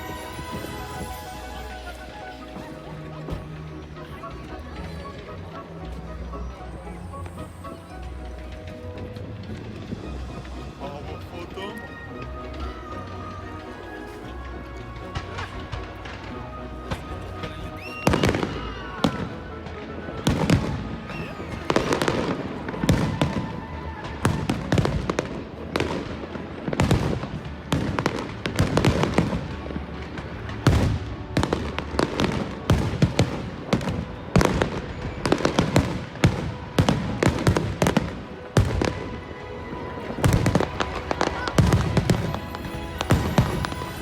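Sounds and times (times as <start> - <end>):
fireworks bangs and crackling: 0.0 - 6.6, 7.2 - 44.0
music playing: 0.0 - 44.0.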